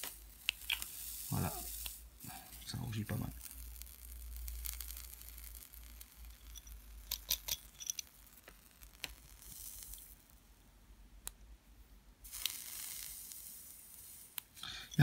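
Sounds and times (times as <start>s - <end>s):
coil crackling and sizzling: 0.0s - 10.5s, 12.2s - 15.0s.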